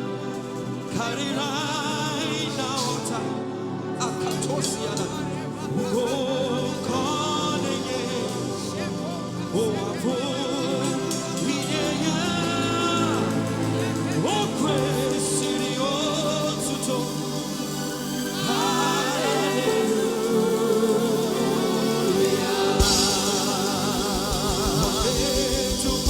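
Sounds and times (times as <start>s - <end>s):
keyboard chords: 0.0s - 26.0s
person singing gospel: 0.0s - 26.0s
voices joining in singing: 0.0s - 26.0s.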